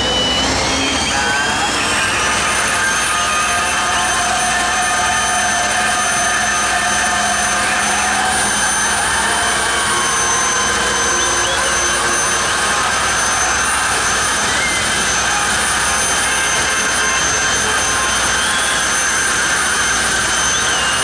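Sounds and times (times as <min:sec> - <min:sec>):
high turbine whine: 0:00.0 - 0:21.0
jet engines roaring: 0:00.0 - 0:21.0.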